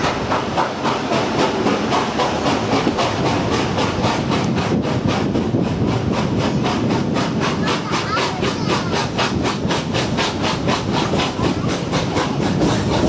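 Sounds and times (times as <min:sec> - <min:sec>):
train running at speed: 0:00.0 - 0:13.0.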